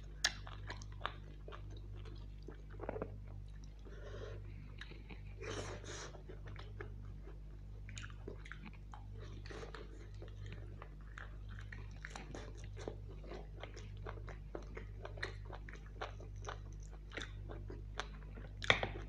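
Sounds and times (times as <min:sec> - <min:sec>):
wet chewing and crunching: 0:00.0 - 0:19.0.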